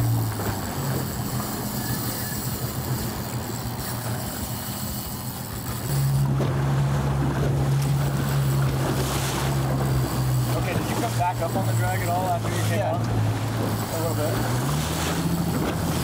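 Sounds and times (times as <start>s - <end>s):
boat engine running: 0.0s - 16.0s
water rushing past hull: 0.0s - 16.0s.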